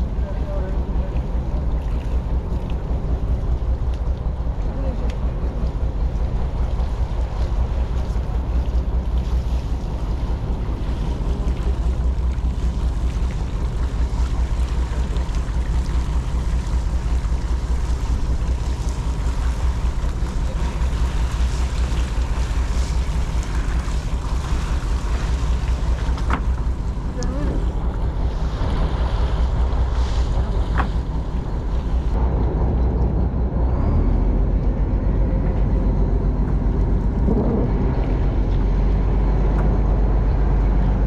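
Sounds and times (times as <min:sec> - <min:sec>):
water washing along hull: 0:00.0 - 0:41.0
wind buffeting microphone: 0:00.0 - 0:41.0.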